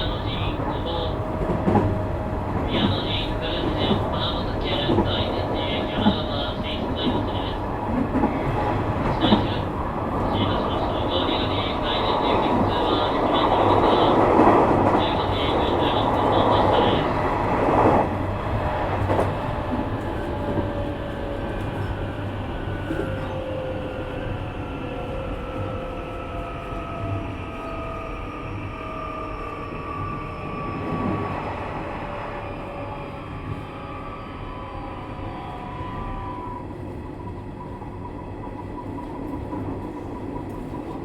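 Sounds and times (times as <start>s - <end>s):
train wheel and running noise: 0.0s - 41.0s.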